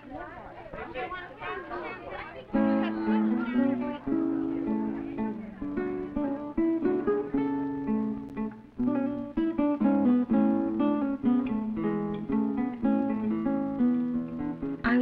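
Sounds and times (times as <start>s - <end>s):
acoustic guitar music: 1.8s - 15.0s.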